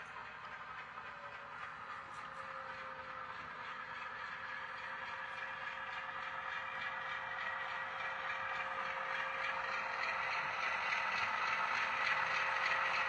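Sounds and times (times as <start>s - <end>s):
model locomotive humming: 0.0s - 13.0s
wheels clattering on rail: 0.0s - 13.0s.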